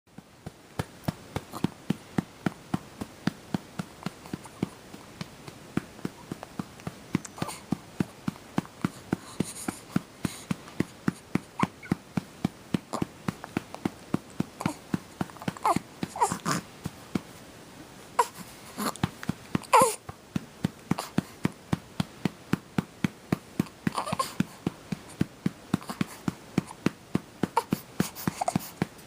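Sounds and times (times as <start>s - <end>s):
hand patting baby's back: 0.2s - 17.3s, 18.2s - 29.0s.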